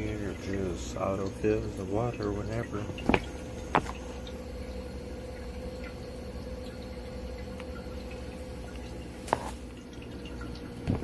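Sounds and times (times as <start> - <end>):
small fan humming: 0.0 - 11.0
water ticks and drips: 0.0 - 11.0.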